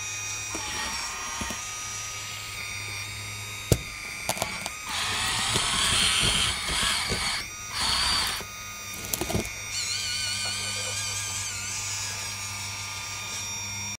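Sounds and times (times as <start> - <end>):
hydraulic pump whining and hissing: 0.0 - 14.0
steady motor hum: 0.0 - 14.0.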